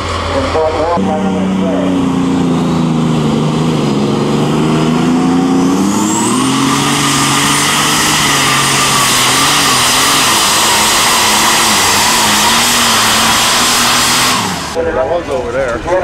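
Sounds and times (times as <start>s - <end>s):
tractor engine running hard: 0.0s - 14.8s
high whine: 0.0s - 14.9s.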